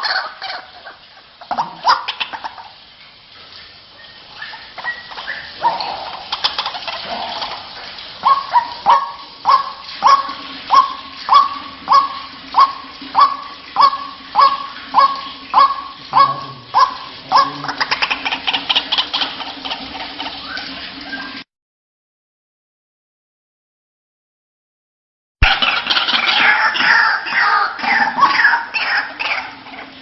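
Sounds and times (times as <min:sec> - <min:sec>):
waterhen calling kwak: 0:00.0 - 0:02.9, 0:03.5 - 0:21.4, 0:25.4 - 0:30.0.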